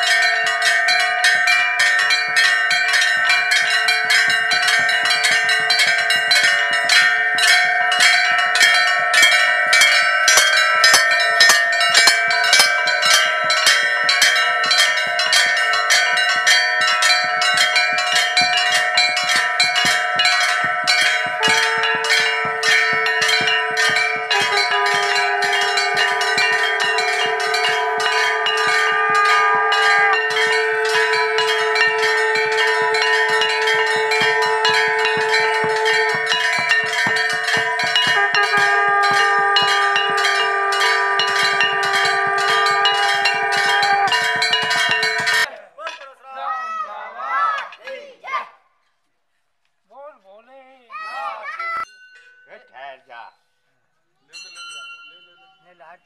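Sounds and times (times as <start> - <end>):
temple bells clanging: 0.0 - 46.1, 54.3 - 56.0.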